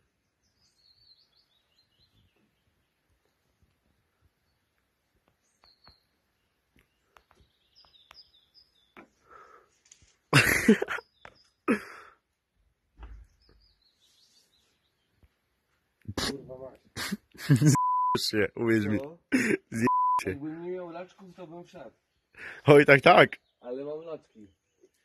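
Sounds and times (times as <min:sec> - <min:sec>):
small birds chirping faintly: 0:00.0 - 0:25.0.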